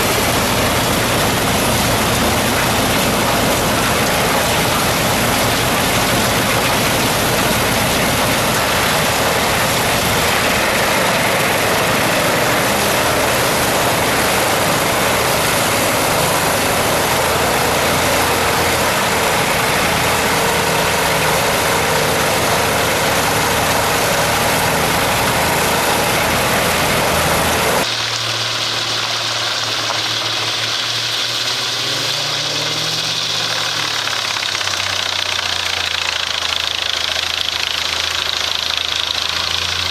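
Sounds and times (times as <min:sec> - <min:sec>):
engine idling: 0:00.0 - 0:39.9
heavy machinery running: 0:00.0 - 0:39.9.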